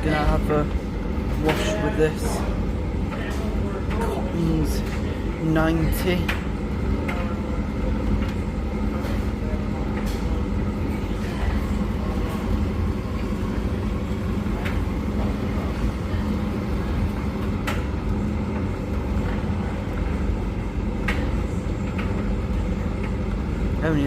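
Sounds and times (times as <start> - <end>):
laundry machines humming: 0.0 - 24.0.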